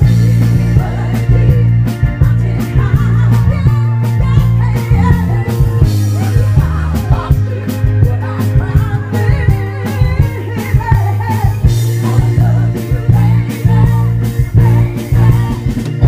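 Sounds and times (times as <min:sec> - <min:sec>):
live band with guitar keyboard drums: 0:00.0 - 0:16.0
women singing: 0:00.0 - 0:16.0.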